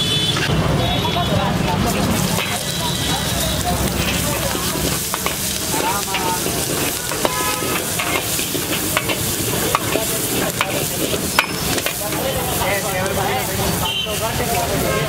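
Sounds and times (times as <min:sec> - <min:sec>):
onions sizzling in oil: 0:01.4 - 0:15.0
metal ladle scraping wok: 0:01.6 - 0:15.0.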